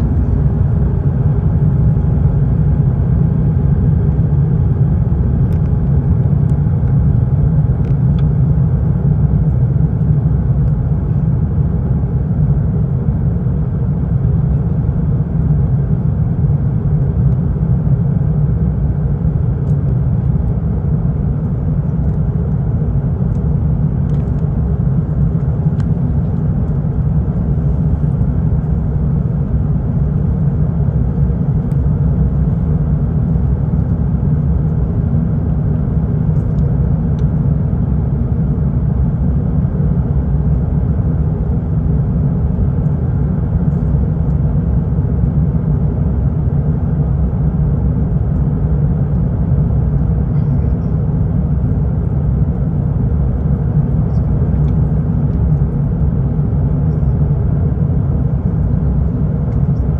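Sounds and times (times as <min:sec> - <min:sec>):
airliner engines rumbling: 0:00.0 - 0:59.9.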